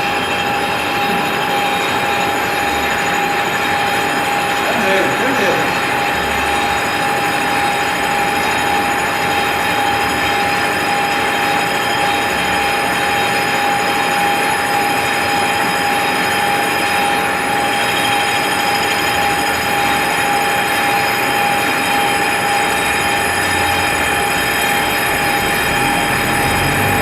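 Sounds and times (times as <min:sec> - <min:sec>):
sharpening machine whining: 0:00.0 - 0:27.0.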